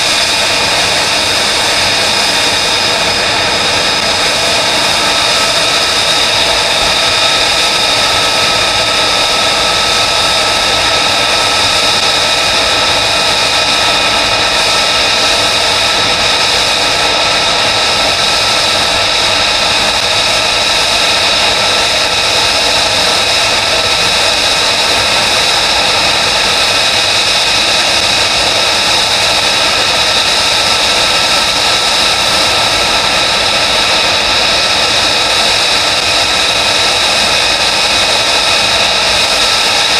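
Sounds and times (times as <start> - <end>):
jet engine idling: 0.0 - 39.9.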